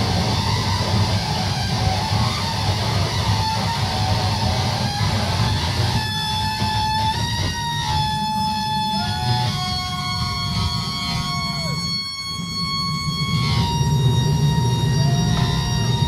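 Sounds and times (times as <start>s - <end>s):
high whining tones: 0.0s - 16.0s.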